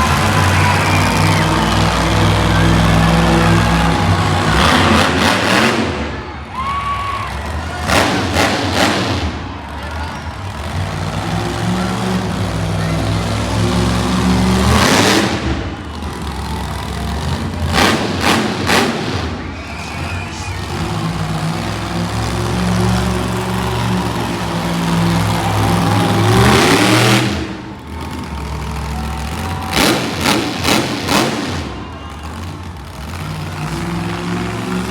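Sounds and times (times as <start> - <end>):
truck engine revving: 0.0 - 34.9.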